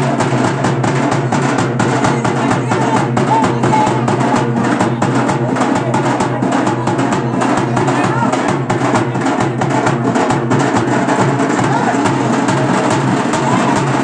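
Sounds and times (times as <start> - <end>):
loud rapid drumming: 0.0 - 14.0.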